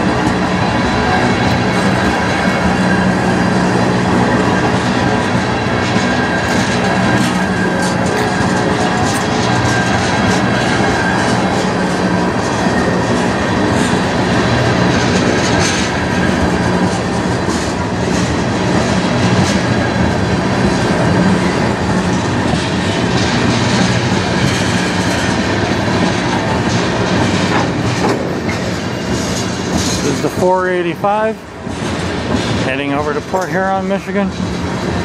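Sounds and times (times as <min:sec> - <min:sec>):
train wheels rumbling on rail: 0:00.0 - 0:35.0
wheels clicking over rail joints: 0:00.0 - 0:35.0.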